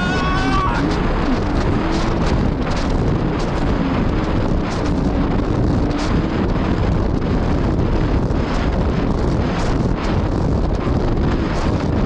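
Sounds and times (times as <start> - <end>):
jet ski engine drone: 0.0 - 12.0
wind buffeting microphone: 0.0 - 12.0.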